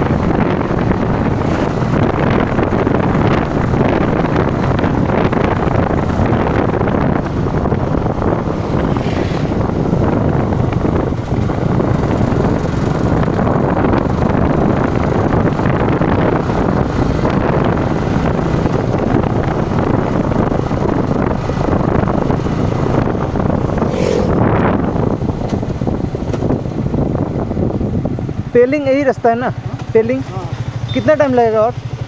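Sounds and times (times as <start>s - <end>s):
motorcycle engine and road noise: 0.0s - 32.0s
wind rushing over microphone: 0.0s - 32.0s.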